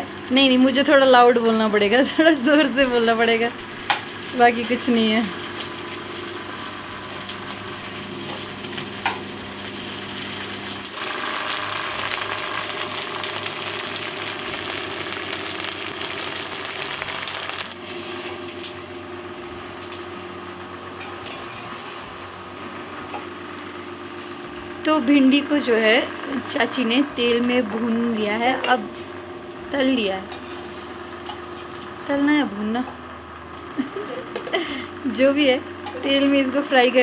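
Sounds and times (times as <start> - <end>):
okra frying in hot oil: 0.0 - 37.0.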